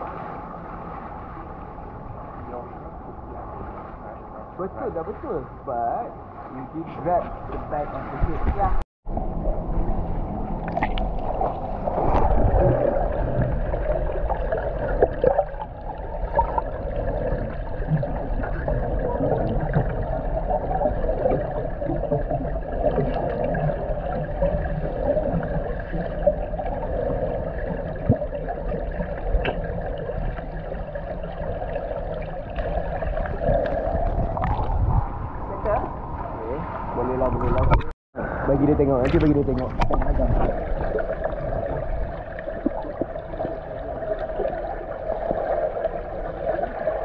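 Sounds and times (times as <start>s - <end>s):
underwater pool water wash: 0.0s - 47.0s.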